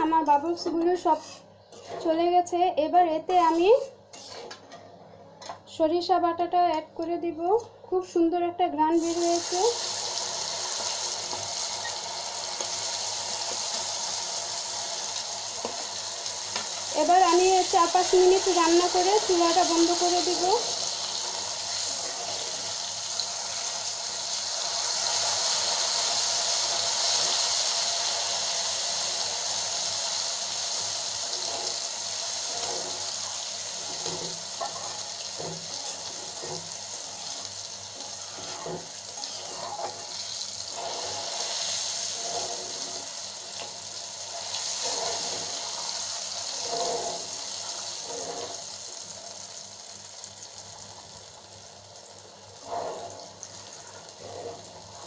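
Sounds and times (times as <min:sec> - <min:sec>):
oil sizzling and bubbling: 0:08.9 - 0:55.0.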